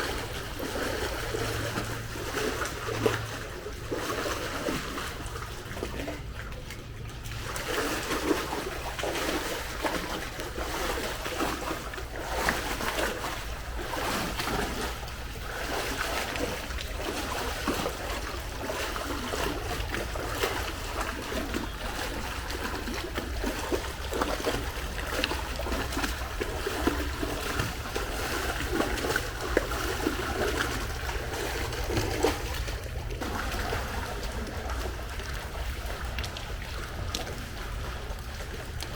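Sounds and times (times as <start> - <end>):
pool water splashing: 0.0 - 38.9
steady low hum: 0.0 - 38.9.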